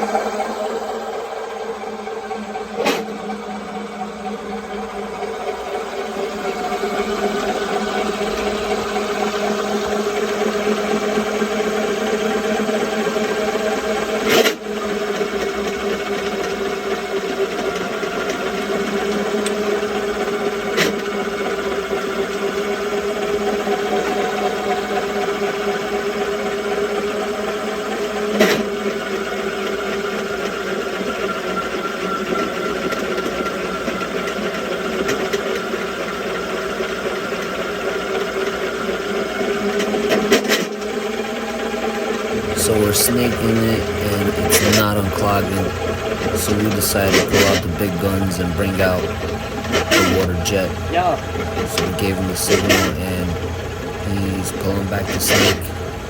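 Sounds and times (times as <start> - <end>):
drain cleaning machine motor: 0.0 - 56.0.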